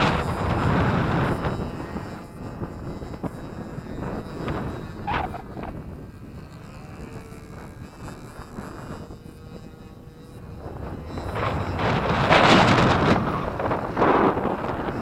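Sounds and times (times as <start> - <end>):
model airplane engine droning: 0.0 - 15.0
wind buffeting microphone: 0.0 - 15.0.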